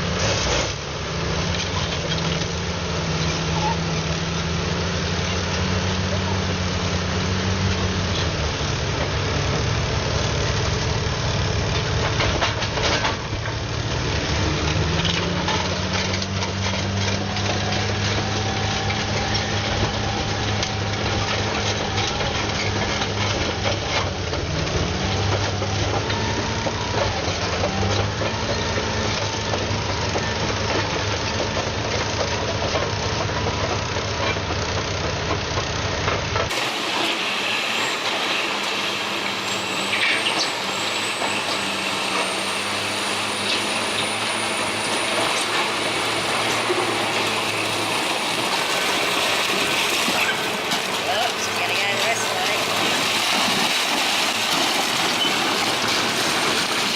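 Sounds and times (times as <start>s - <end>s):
heavy vehicle engine running: 0.0s - 56.9s.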